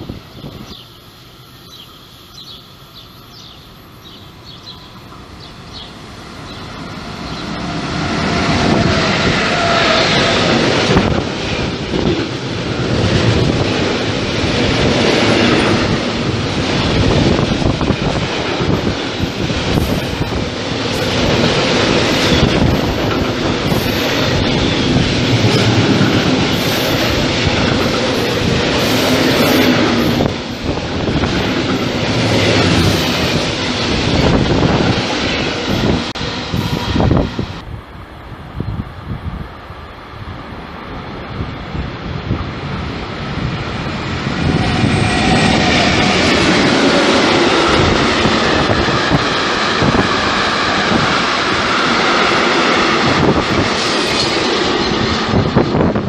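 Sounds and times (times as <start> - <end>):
freight train passing: 0.0 - 56.0.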